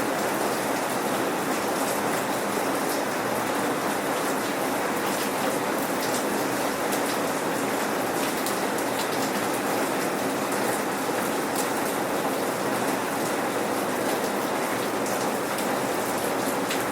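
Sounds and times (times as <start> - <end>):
steady rain pattering: 0.0 - 16.9.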